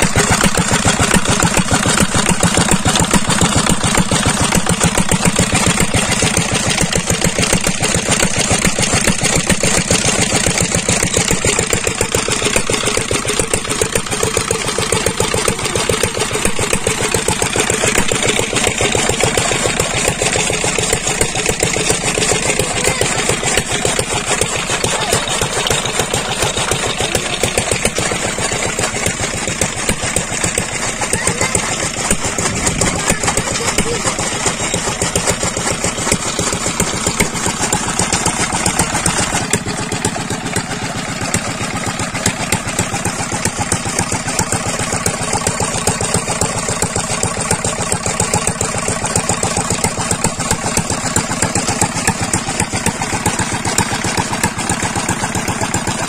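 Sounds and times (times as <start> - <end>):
stationary diesel engine running: 0.0 - 56.0.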